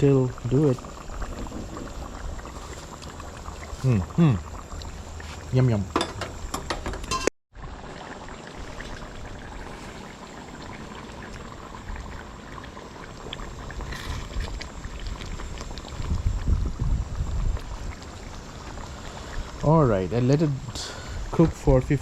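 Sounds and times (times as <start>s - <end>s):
curry bubbling in a pot: 0.0s - 22.0s.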